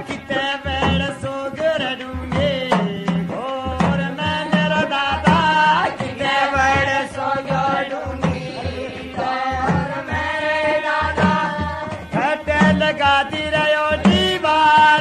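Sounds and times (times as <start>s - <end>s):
men singing devotional song: 0.0s - 15.0s
steady drumbeat: 0.0s - 15.0s.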